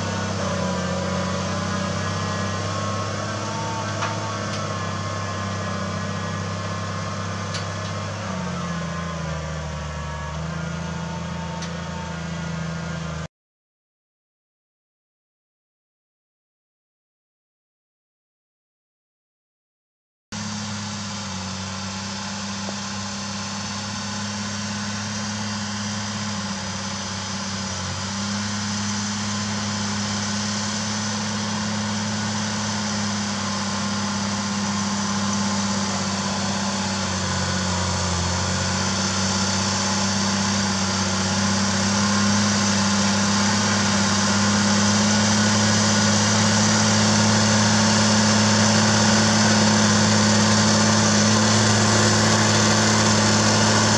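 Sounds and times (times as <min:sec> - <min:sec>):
tractor diesel engine under load: 0:00.0 - 0:13.3, 0:20.4 - 0:53.9.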